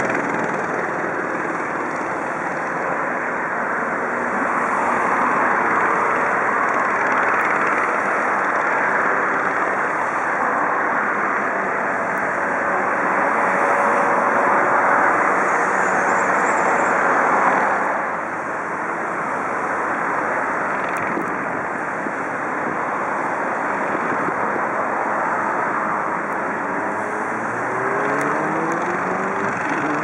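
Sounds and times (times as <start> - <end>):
propeller plane engine drone: 0.0 - 30.0.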